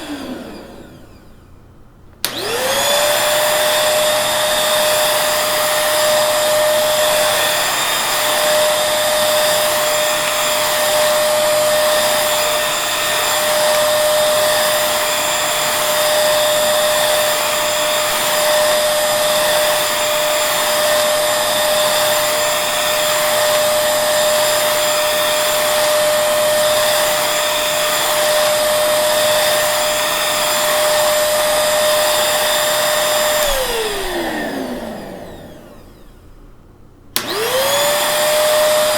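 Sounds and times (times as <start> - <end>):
vacuum motor winding down: 0.0 - 1.5, 2.2 - 36.3, 37.2 - 38.9
vacuum cleaner running: 0.0 - 38.9.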